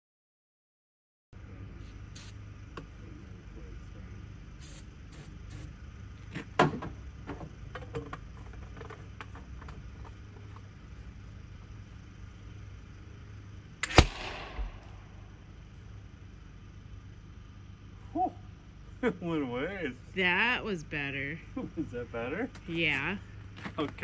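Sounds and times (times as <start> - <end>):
steady low hum: 1.4 - 24.0.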